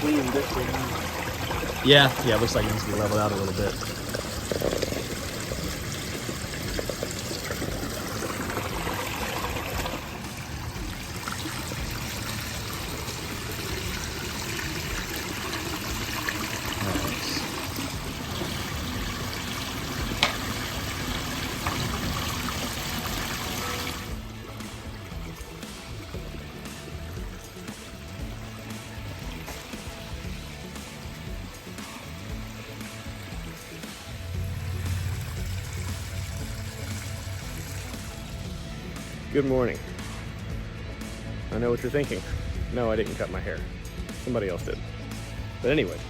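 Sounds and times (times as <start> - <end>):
water splashing and trickling: 0.0 - 46.0.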